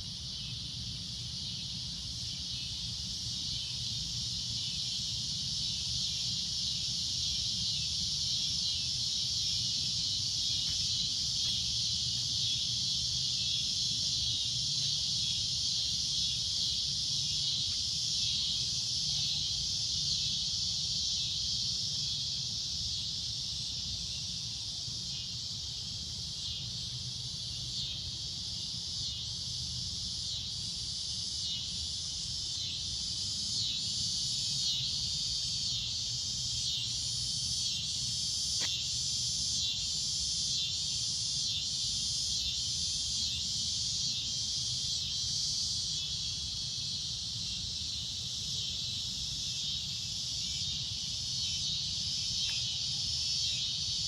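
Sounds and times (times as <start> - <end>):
cicadas droning: 0.0 - 54.0.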